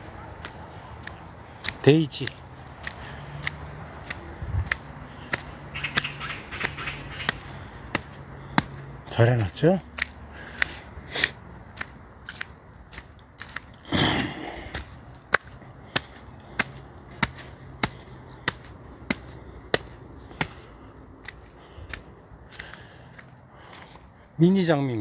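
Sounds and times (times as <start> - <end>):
footsteps on concrete: 0.0 - 24.4.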